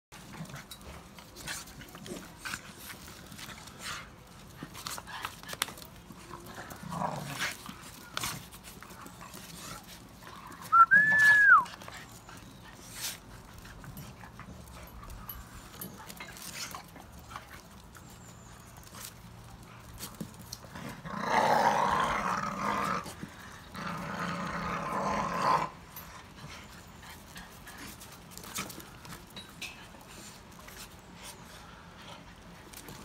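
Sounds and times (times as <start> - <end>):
dogs play-growling: 0.2 - 10.8, 11.7 - 33.0.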